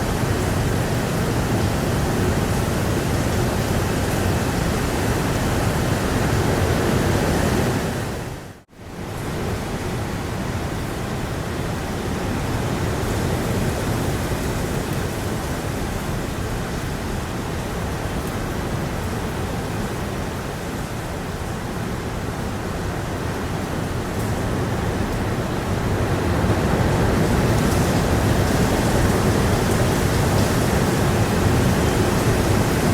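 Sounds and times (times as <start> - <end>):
blustery wind: 0.0 - 32.9
heavy rain: 0.0 - 32.9.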